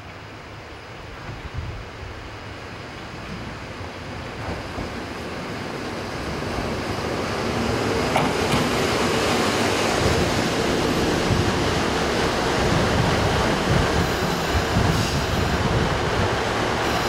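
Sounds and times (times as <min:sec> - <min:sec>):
diesel railcar running past: 0:00.0 - 0:17.0.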